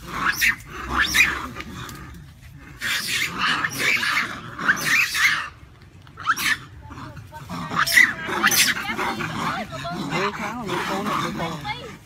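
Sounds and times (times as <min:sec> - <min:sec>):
monkeys screaming and squealing: 0:00.0 - 0:12.0.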